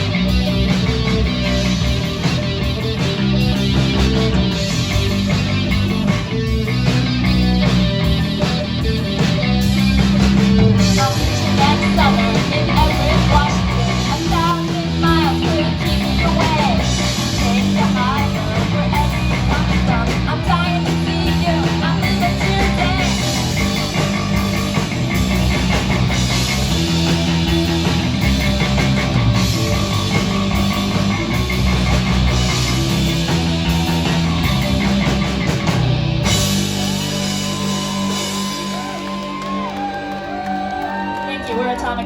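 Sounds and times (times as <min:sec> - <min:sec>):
punk rock band playing loud: 0:00.0 - 0:42.0.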